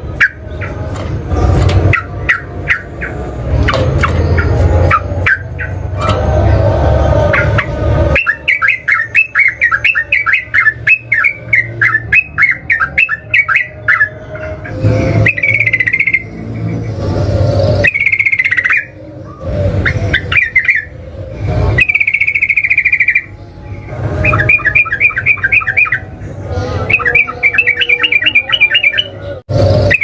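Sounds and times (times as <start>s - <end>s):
bulbul singing: 0.0s - 30.0s.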